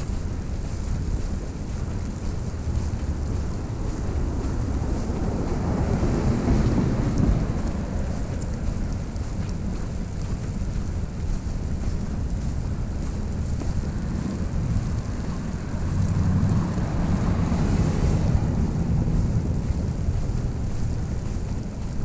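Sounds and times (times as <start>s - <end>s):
wind gusting over microphone: 0.0s - 22.0s.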